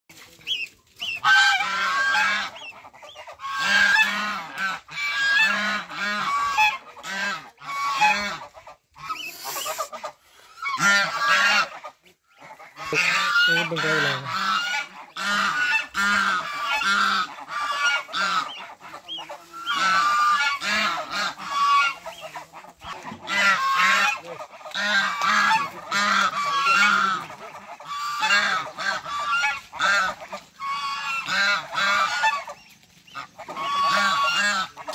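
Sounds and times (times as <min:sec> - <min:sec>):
geese honking: 0:00.1 - 0:34.9.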